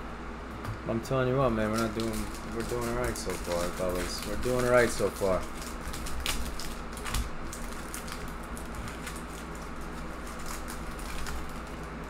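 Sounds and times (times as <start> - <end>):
steady low hum: 0.0 - 12.0
foil wrapper crinkling: 1.5 - 12.0
cards rustling: 1.6 - 12.0.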